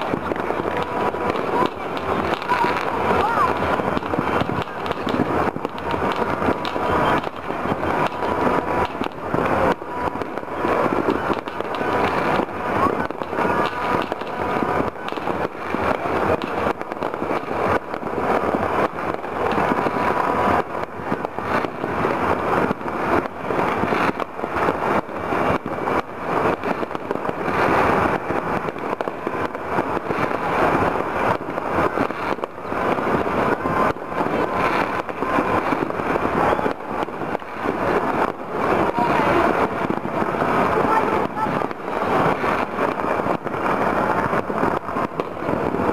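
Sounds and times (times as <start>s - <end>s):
fireworks crackling and banging: 0.0s - 45.9s.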